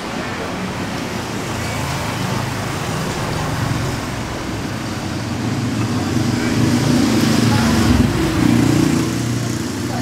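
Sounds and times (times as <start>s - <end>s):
busy night market ambience: 0.0s - 10.0s.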